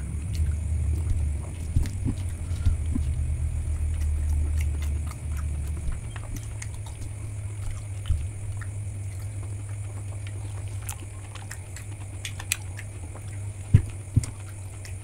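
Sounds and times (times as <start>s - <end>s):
eating and chewing clicks: 0.0s - 15.0s
low rumble: 0.0s - 15.0s.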